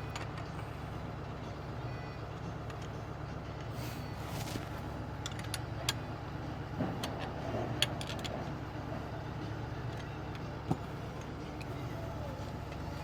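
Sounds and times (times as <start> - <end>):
truck engine idling: 0.0 - 7.8, 8.4 - 13.0.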